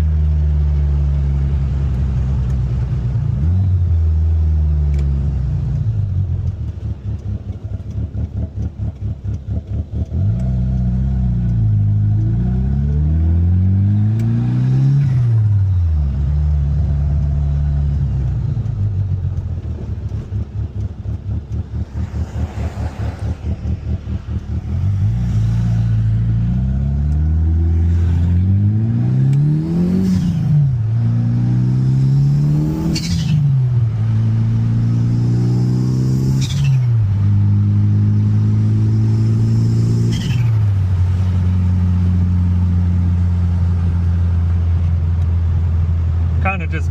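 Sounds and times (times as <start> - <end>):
car engine accelerating through gears: 0.0 - 46.9.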